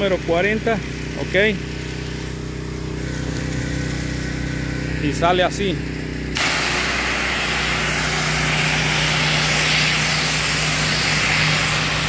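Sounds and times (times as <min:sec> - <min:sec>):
pressure washer spraying brick: 0:00.0 - 0:12.0.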